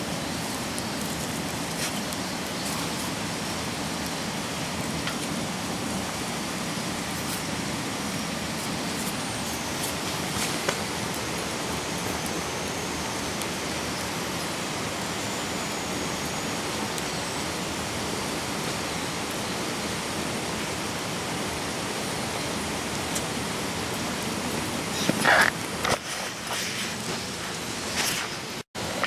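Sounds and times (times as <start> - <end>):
stream rushing: 0.0 - 29.0.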